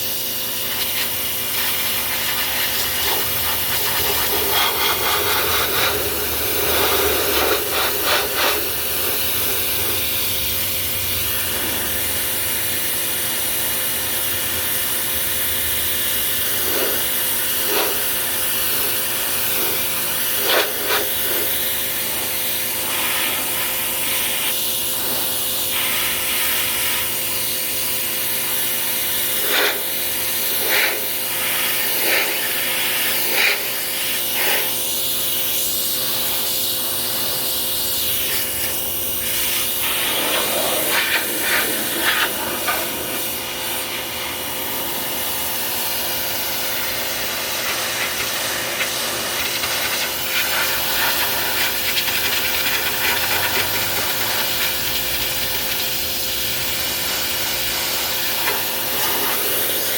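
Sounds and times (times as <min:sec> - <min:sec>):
pressure washer spraying water: 0:00.0 - 0:59.9.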